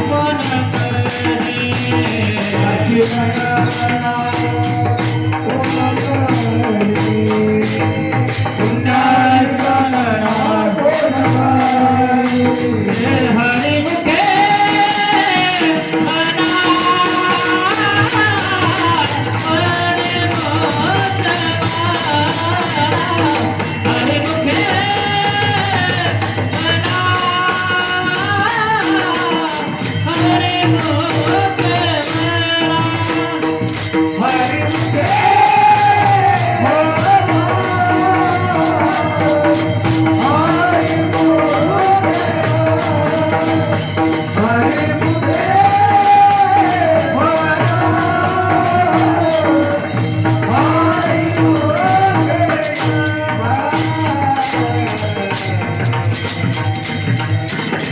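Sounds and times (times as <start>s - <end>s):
fast jingling percussion: 0.0s - 57.9s
hand drum: 0.0s - 57.9s
man singing devotional song: 0.0s - 57.9s.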